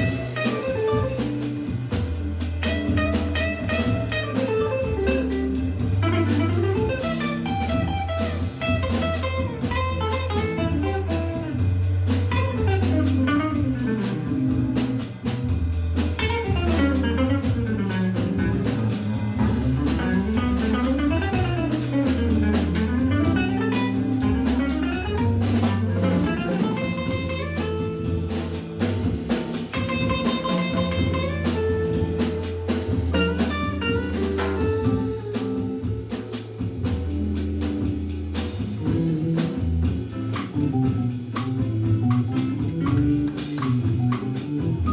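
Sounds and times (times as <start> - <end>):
electric guitar lines: 0.0 - 15.1, 16.2 - 38.0, 38.6 - 44.9
drum kit with cymbals: 0.0 - 44.9
organ bass line: 0.0 - 44.9.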